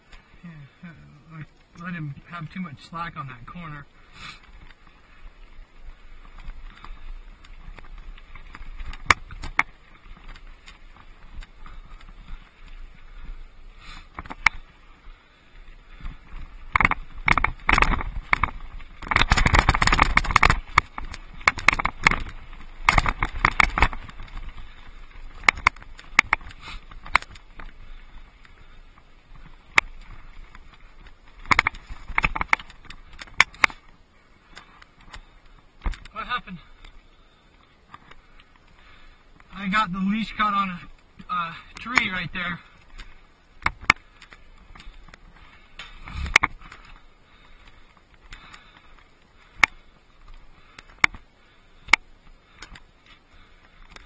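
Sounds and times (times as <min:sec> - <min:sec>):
tyres crunching on gravel: 0:01.3 - 0:54.0
bike rattling over rocks: 0:01.4 - 0:54.0.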